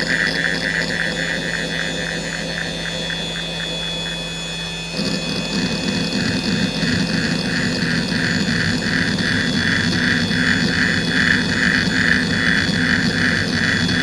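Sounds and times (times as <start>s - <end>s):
hard drive spindle whine: 0.0s - 14.0s.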